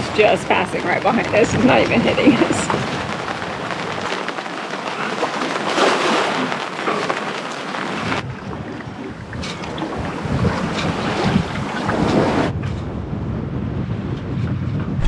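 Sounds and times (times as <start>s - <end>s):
rain rushing: 0.0s - 12.5s
wind: 0.0s - 15.0s.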